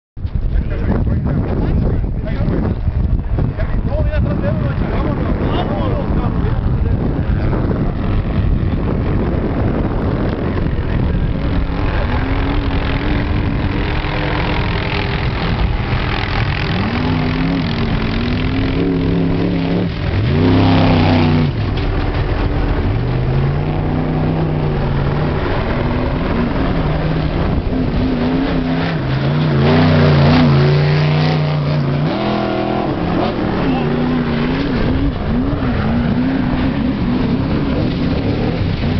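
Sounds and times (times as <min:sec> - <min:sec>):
trucks racing past with engines revving: 0:00.3 - 0:38.9.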